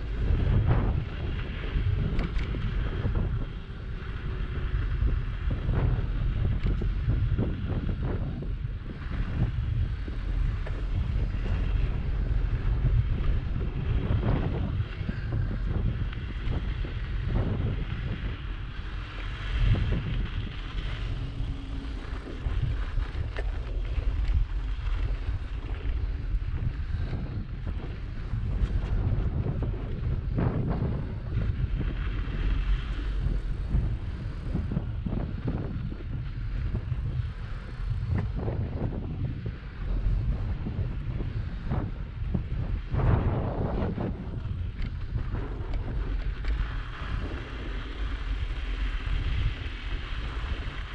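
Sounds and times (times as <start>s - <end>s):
bicycle tyres rolling over snow: 0.0s - 50.9s
wind buffeting the microphone: 0.0s - 50.9s.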